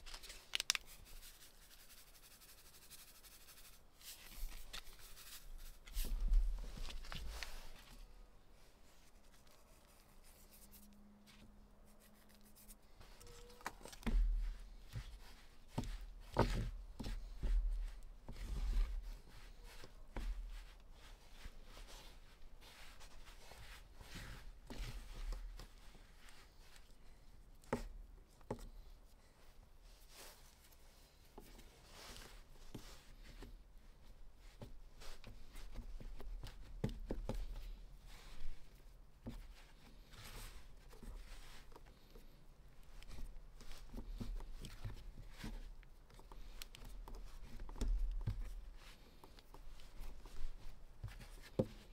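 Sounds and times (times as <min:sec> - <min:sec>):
hands kneading dough: 0:00.0 - 0:51.9.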